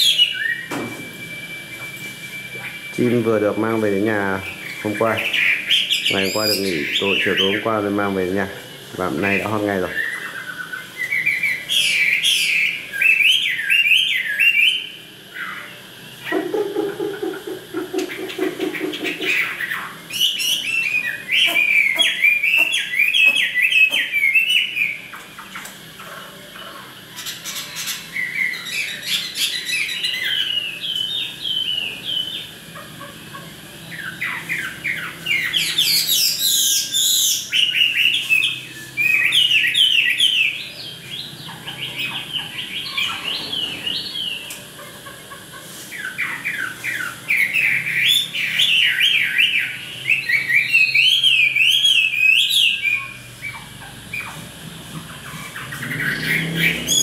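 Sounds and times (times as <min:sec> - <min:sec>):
songbird warbling: 0:02.5 - 0:08.1, 0:09.0 - 0:57.0.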